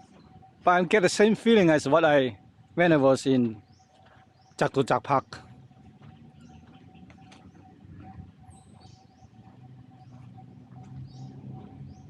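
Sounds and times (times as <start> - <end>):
birds chirping: 0.0 - 12.0
low background rumble: 0.0 - 12.0.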